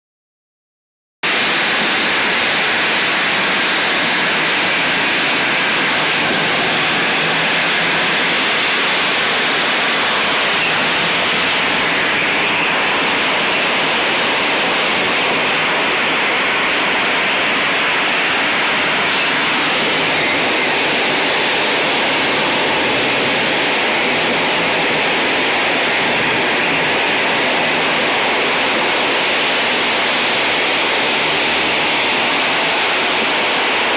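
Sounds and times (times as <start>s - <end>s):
wind and road noise in a cab: 1.3s - 33.9s.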